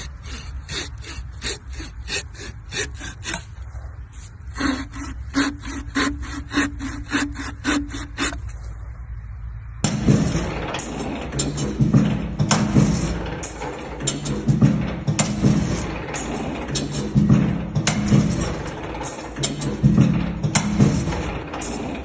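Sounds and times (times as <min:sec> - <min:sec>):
back-and-forth scraping strokes: 0:00.0 - 0:22.0
steady noisy sound: 0:00.0 - 0:22.0.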